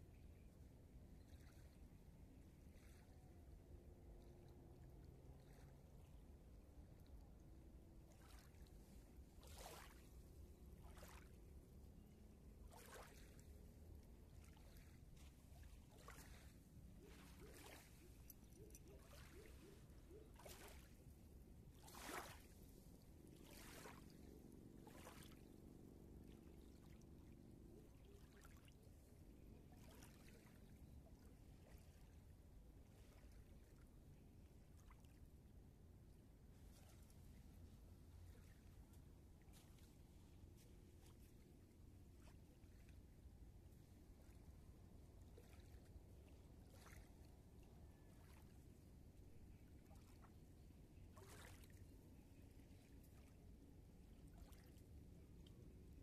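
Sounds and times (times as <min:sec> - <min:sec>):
low steady rumble: 0:00.0 - 0:21.8, 0:22.4 - 0:51.2
river ripples lapping: 0:00.0 - 0:56.0.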